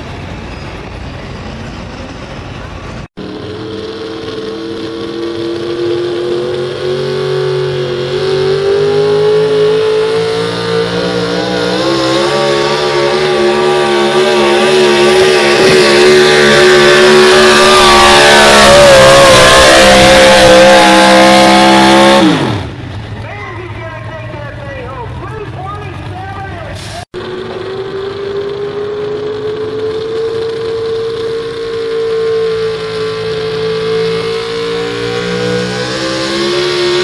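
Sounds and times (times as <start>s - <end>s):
truck engine at full throttle: 0.0s - 37.0s.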